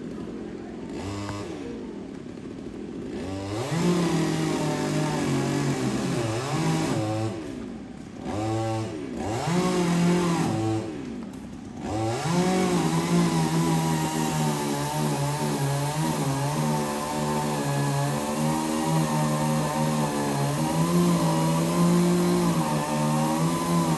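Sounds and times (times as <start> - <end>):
chainsaw engine revving: 0.0 - 23.9.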